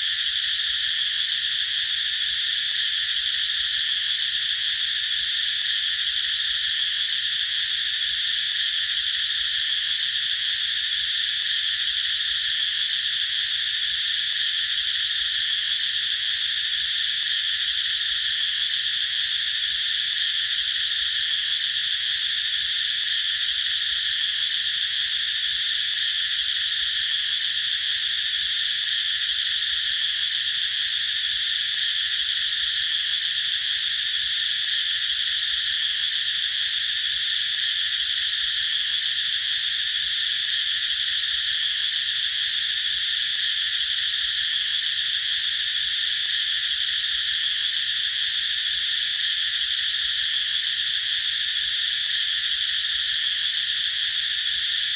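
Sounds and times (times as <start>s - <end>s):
cicadas buzzing: 0.0s - 54.9s.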